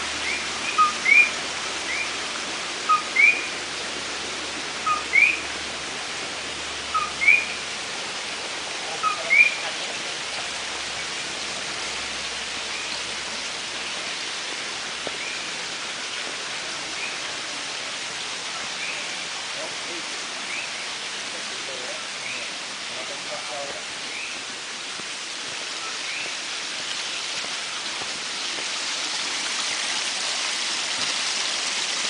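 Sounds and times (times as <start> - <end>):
forest ambience: 0.0 - 32.0.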